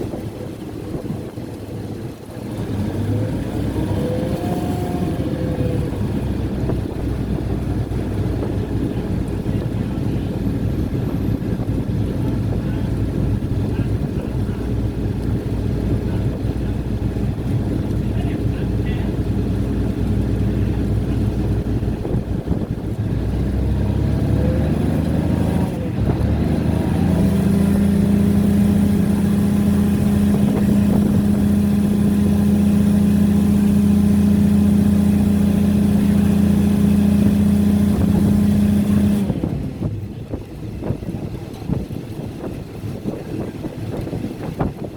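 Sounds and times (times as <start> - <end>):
diesel train engine humming: 3.0 - 44.9.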